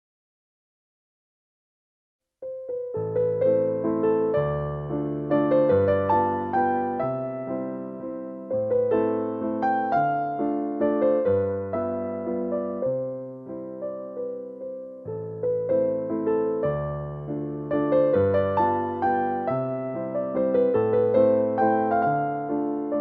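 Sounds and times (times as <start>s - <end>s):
electric piano melody: 2.4s - 23.0s.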